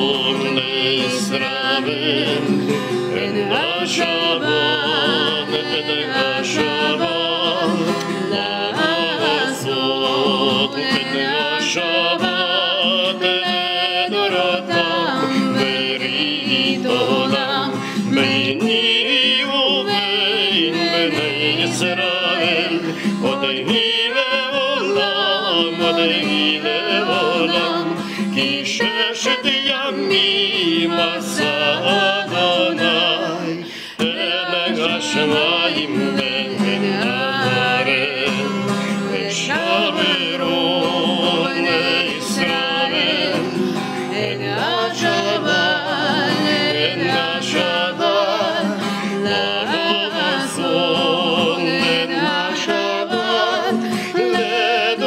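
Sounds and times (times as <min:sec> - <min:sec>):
strummed acoustic guitar: 0:00.0 - 0:55.0
woman and man singing together: 0:00.0 - 0:55.0.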